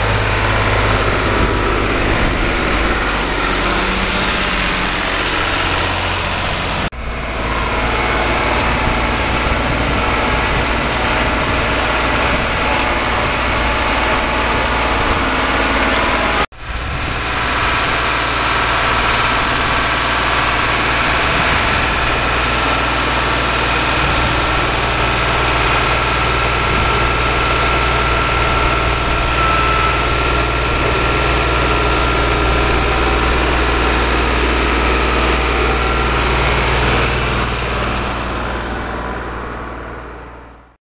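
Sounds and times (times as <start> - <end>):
tractor diesel engine running: 0.0 - 40.8.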